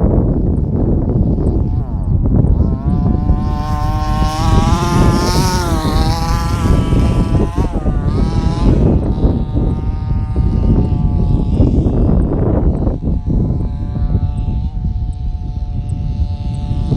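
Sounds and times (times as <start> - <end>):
rc truck motor whining: 0.7 - 16.9.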